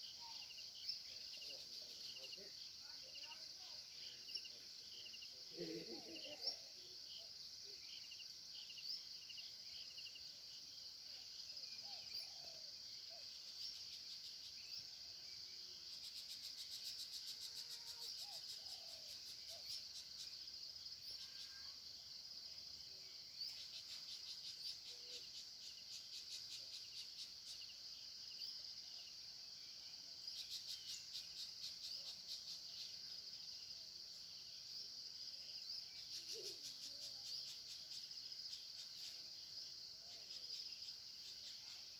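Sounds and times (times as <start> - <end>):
insects buzzing: 0.0 - 41.9.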